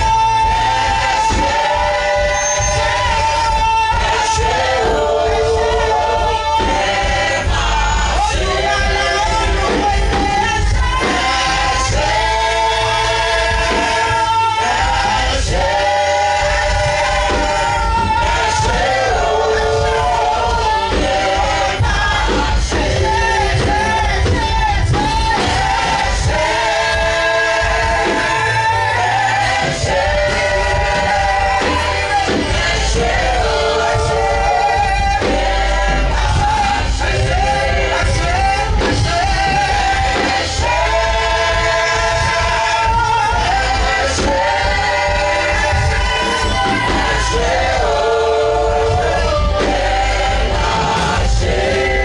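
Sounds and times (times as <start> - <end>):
band with heavy bass: 0.0 - 52.0
voices singing together: 0.0 - 52.0.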